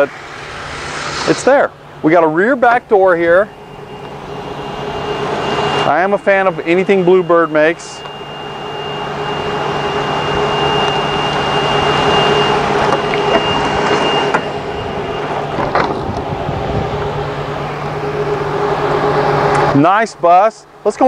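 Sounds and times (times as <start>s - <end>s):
rushing noise: 0.0s - 20.2s
steady low hum: 0.0s - 21.0s
thin high whine: 0.0s - 21.0s.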